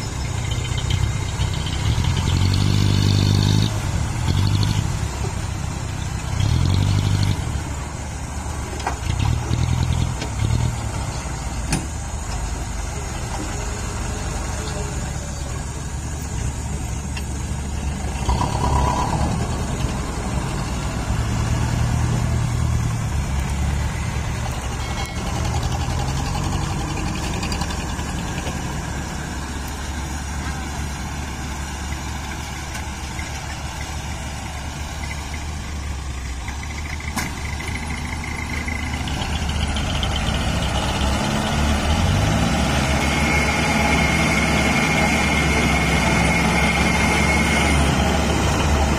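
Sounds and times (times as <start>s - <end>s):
diesel engine idling and revving: 0.0s - 48.9s.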